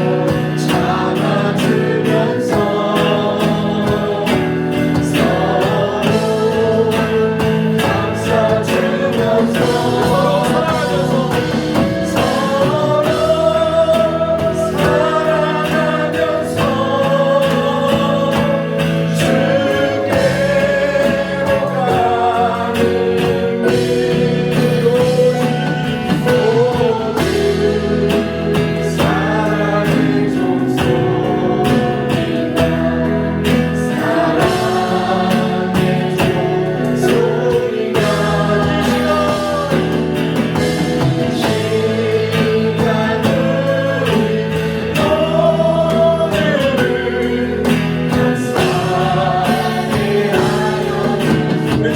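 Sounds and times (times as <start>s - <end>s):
gospel worship song with band: 0.0s - 51.9s.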